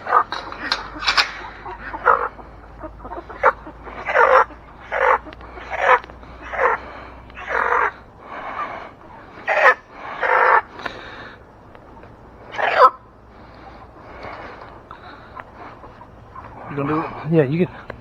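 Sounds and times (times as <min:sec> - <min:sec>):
chicken squawking: 0:00.0 - 0:17.8.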